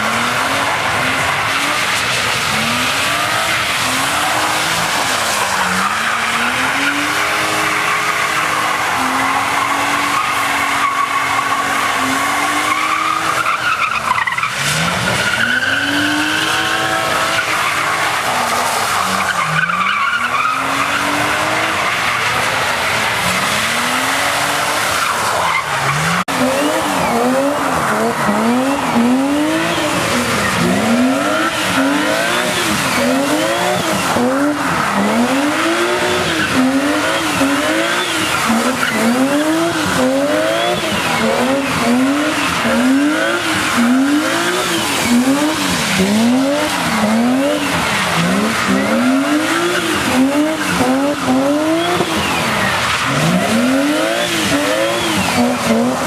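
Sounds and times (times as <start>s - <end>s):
car engine revving: 0.0s - 56.0s
tyres squealing on wet tarmac: 0.0s - 56.0s.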